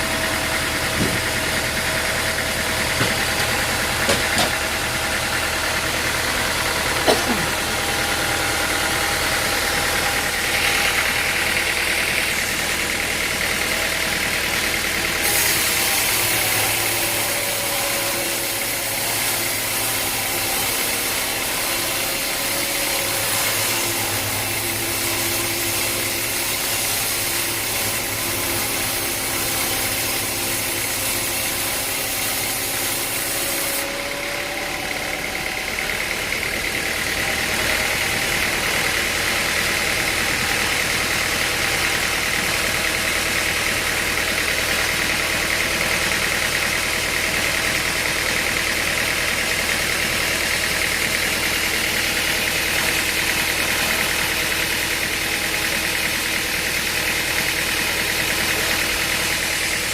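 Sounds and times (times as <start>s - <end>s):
machinery whine: 0.0s - 59.9s
sawmill motor drone: 0.0s - 59.9s.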